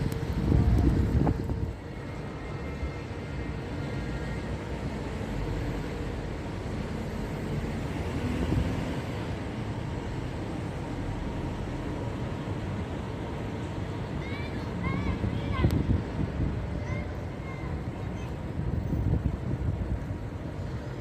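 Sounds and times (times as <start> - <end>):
vehicles driving past: 0.0 - 21.0.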